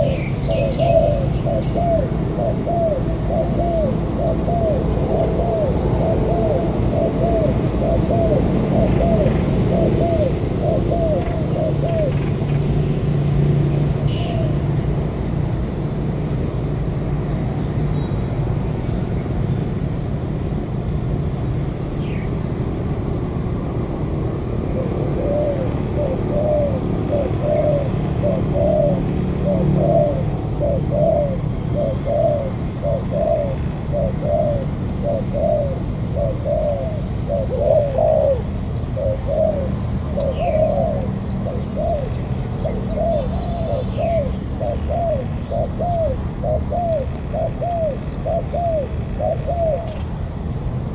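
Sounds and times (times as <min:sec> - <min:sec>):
doves cooing: 0:00.0 - 0:15.9, 0:23.6 - 0:50.2.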